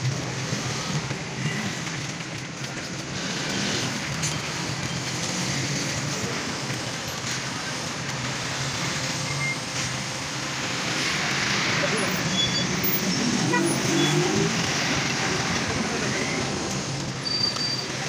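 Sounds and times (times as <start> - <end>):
street traffic hum: 0.0 - 18.0.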